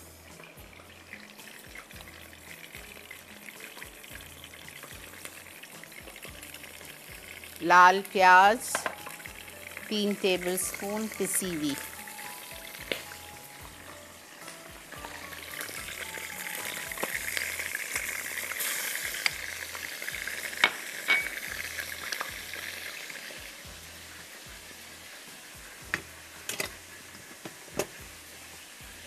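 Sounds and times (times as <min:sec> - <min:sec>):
spices sizzling in oil: 0:00.0 - 0:29.0.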